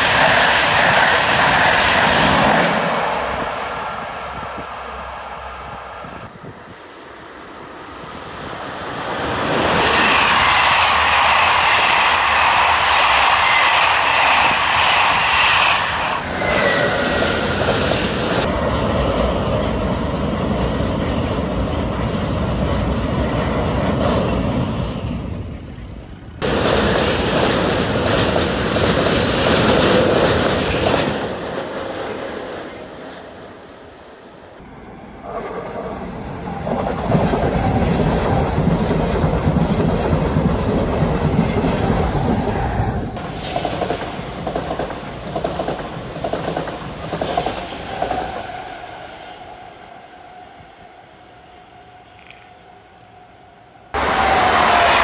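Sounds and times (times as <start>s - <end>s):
freight train rumble: 0.0s - 55.0s.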